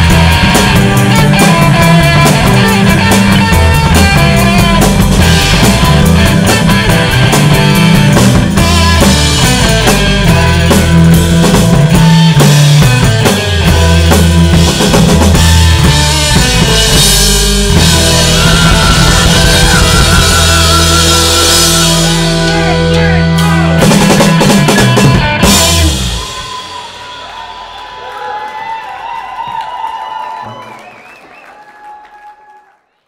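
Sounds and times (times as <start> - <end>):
drum hits: 0.0 - 28.0
live rock band playing: 0.0 - 28.2.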